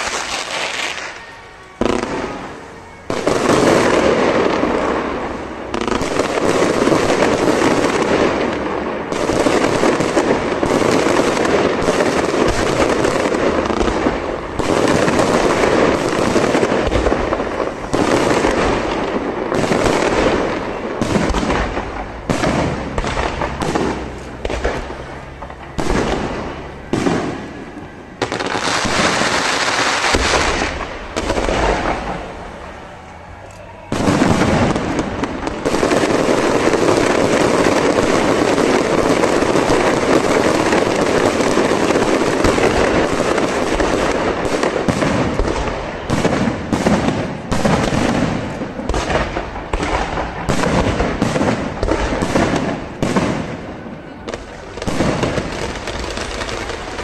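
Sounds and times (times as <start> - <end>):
fireworks crackling bursts: 0.0 - 57.0.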